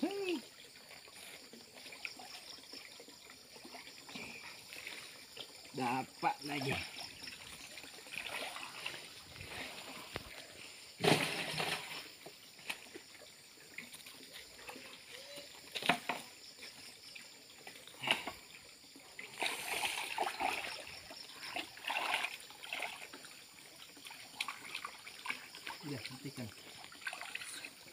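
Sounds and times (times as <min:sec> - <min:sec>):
water sloshing and splashing: 0:00.0 - 0:27.9.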